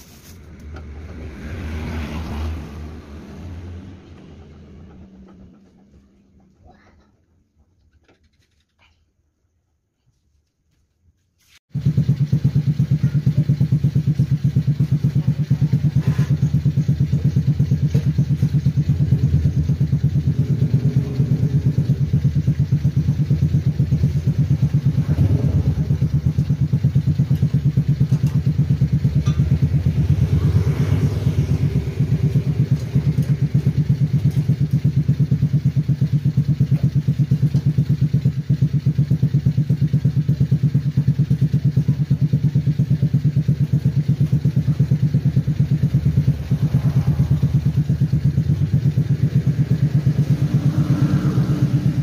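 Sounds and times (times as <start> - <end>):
go-kart engine idling: 3.7 - 7.5, 11.8 - 52.0.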